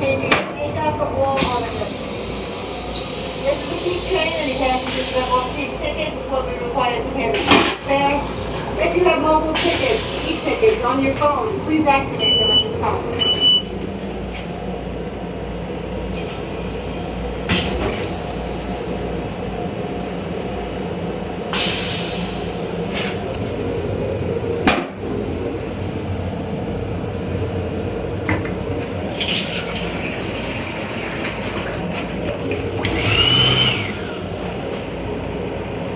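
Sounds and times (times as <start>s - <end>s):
toilet flushing: 0.0s - 14.4s, 16.0s - 19.7s, 21.4s - 26.1s, 27.0s - 35.9s
train running hum: 0.0s - 35.9s.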